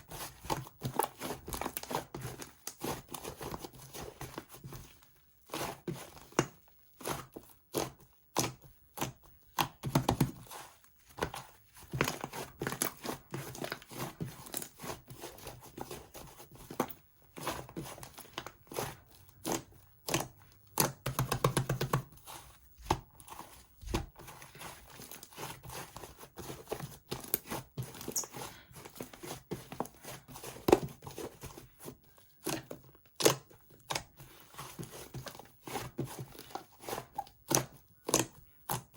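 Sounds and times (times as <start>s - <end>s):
slime squishing and crackling: 0.0s - 38.9s.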